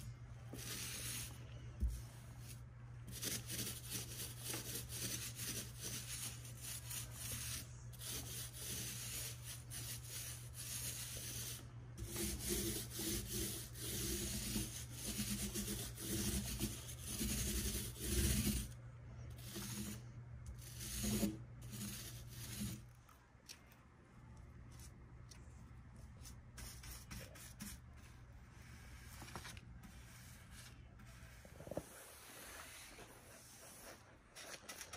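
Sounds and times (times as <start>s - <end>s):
paint roller rubbing: 0.0s - 22.9s, 26.6s - 34.9s.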